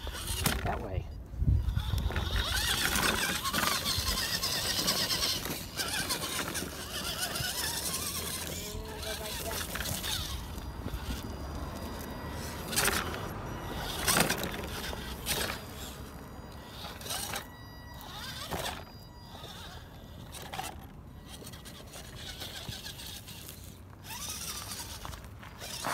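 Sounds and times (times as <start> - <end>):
electric motor whir: 0.0 - 25.9.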